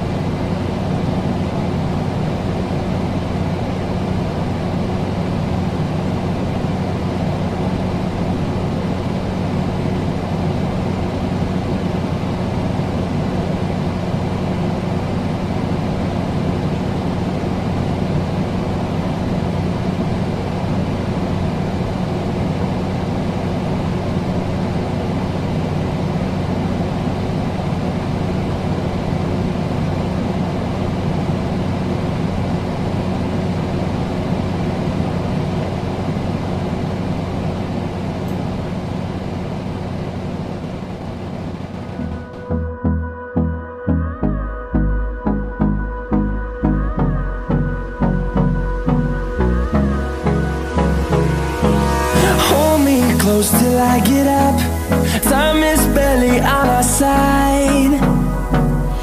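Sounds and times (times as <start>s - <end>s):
air conditioner running: 0.0s - 59.0s.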